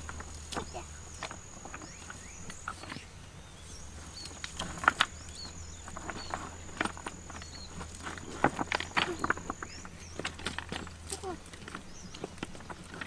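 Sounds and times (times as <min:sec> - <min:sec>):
insect trilling: 0:00.0 - 0:12.9
bird chirping: 0:00.0 - 0:13.0
footsteps on loose stones: 0:00.0 - 0:13.0.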